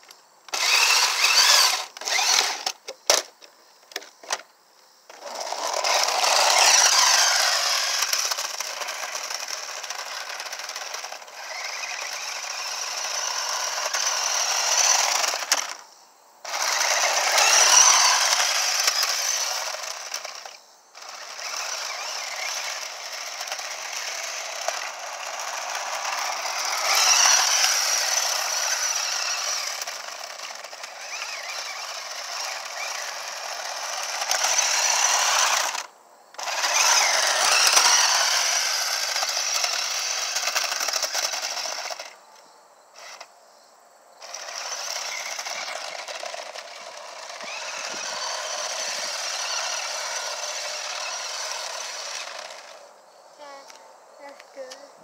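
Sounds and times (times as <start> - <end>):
small motor and gears whirring: 0.0 - 4.5, 5.1 - 43.3, 44.2 - 54.9.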